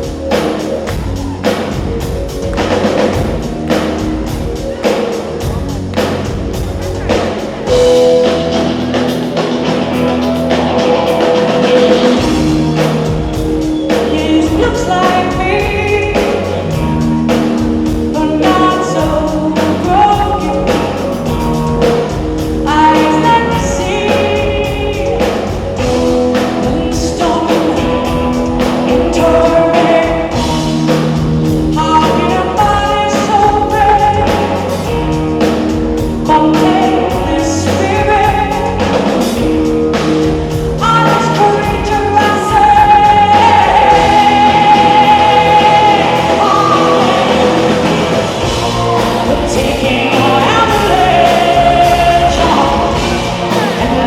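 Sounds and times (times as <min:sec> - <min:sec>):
live electronic rock band: 0:00.0 - 0:54.0
woman singing: 0:10.3 - 0:54.0.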